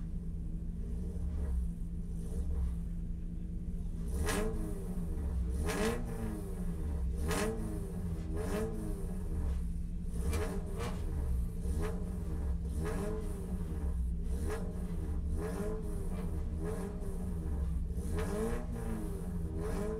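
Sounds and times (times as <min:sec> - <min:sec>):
race car engine drone: 0:00.0 - 0:19.9.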